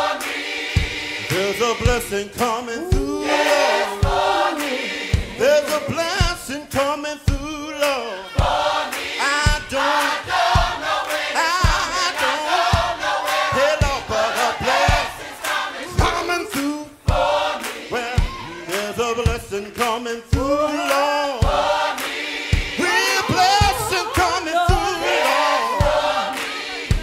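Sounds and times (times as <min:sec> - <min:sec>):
choir singing gospel song: 0:00.0 - 0:27.0
band accompaniment with drum beat: 0:00.2 - 0:15.3, 0:15.9 - 0:27.0.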